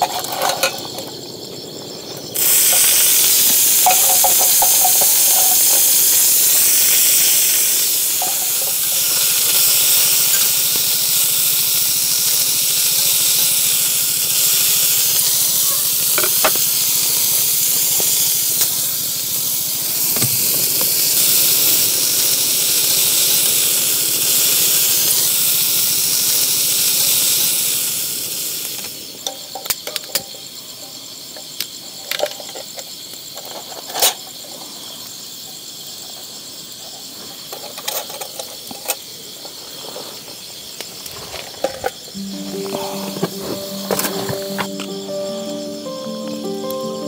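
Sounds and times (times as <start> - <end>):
food sizzling on griddle: 0.0 - 32.2, 35.3 - 47.0
insect chirring: 0.0 - 47.0.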